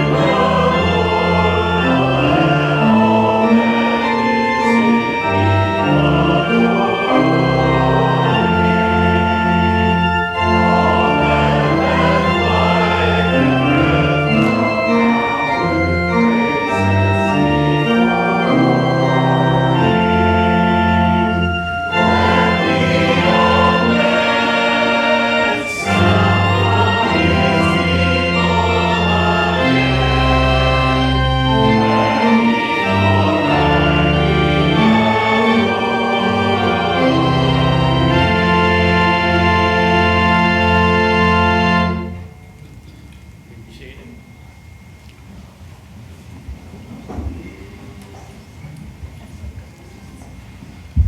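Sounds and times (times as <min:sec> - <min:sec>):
church organ playing hymn: 0:00.0 - 0:48.8.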